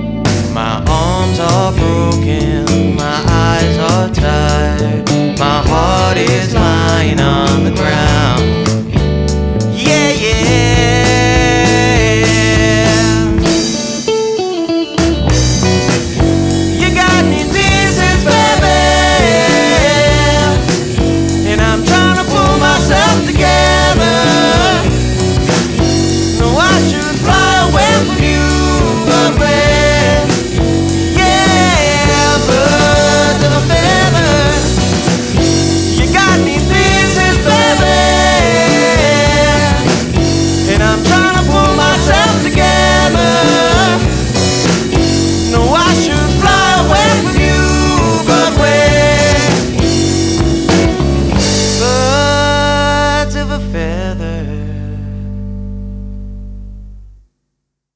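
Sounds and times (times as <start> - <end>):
singing voice: 0.0 - 9.0, 9.6 - 14.0, 16.0 - 55.4
rock band playing: 0.0 - 53.9.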